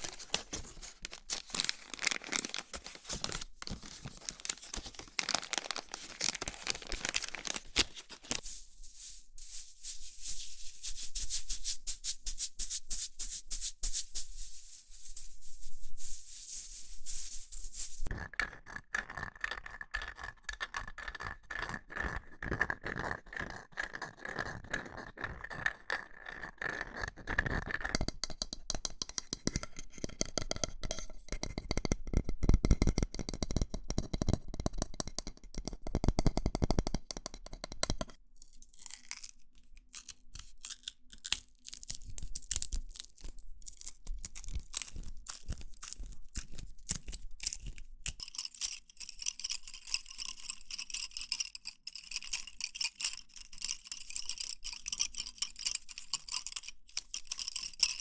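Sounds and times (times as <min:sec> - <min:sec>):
scratching and tapping on objects: 0:00.0 - 0:58.0.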